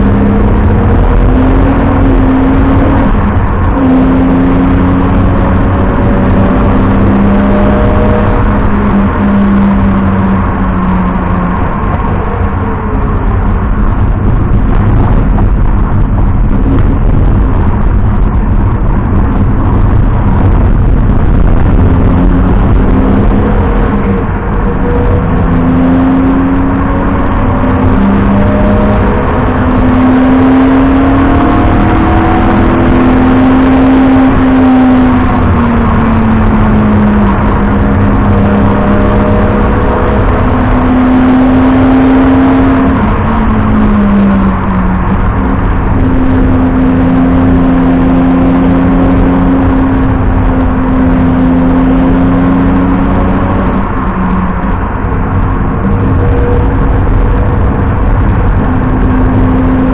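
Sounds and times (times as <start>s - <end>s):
car engine accelerating: 0.0s - 59.9s
road and tyre noise: 0.0s - 59.9s.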